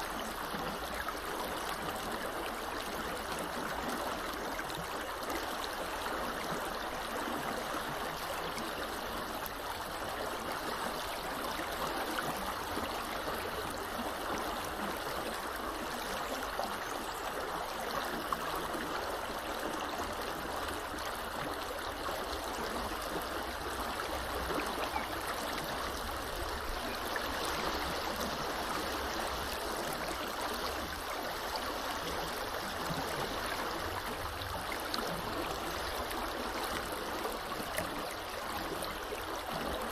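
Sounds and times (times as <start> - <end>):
small river flowing: 0.0 - 39.9.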